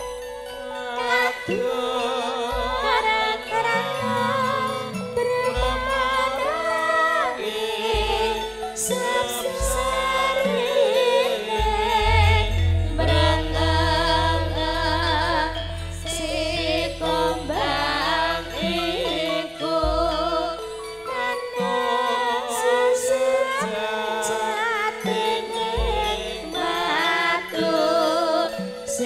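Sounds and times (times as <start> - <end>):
gamelan ensemble music: 0.0 - 29.0
woman singing: 0.0 - 29.0.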